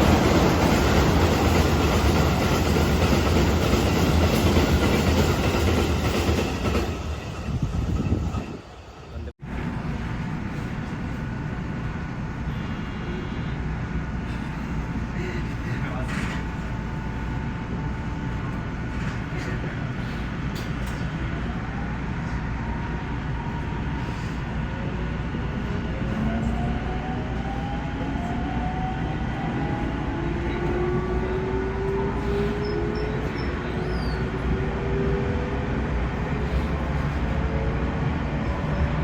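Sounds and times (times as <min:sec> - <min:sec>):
wheels rumbling on rail: 0:00.0 - 0:39.0.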